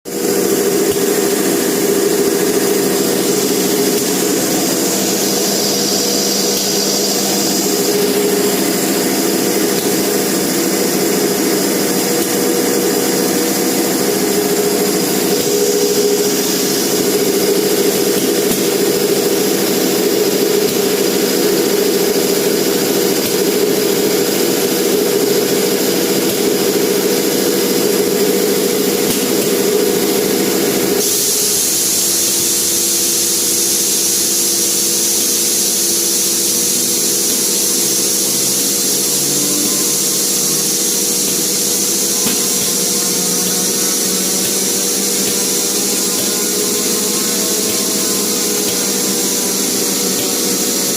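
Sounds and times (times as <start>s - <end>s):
air compressor high hiss: 0.1s - 50.9s
air compressor motor hum: 0.1s - 50.9s.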